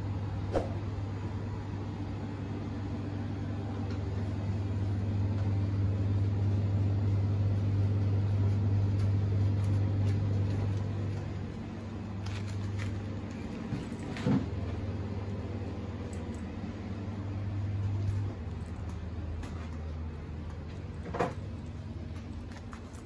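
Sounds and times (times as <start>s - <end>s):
refrigerator low hum: 0.0s - 23.0s.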